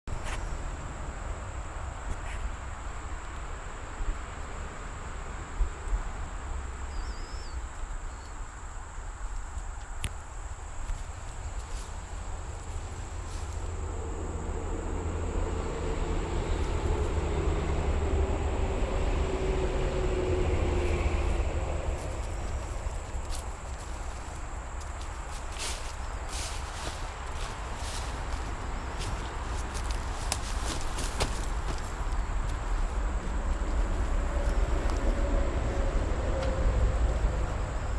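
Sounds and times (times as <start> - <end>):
distant vehicle engine hum: 0.1 - 37.9.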